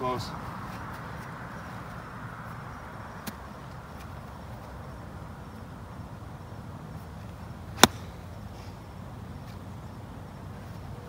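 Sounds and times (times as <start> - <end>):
outdoor background hush: 0.0 - 11.0.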